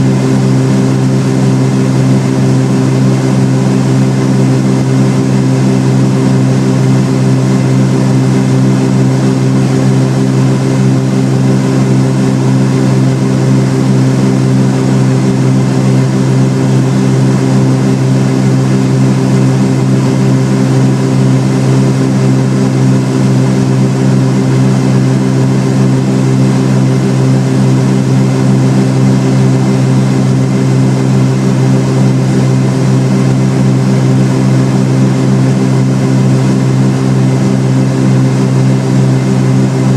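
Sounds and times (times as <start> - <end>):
twin propeller engines droning: 0.0 - 39.9.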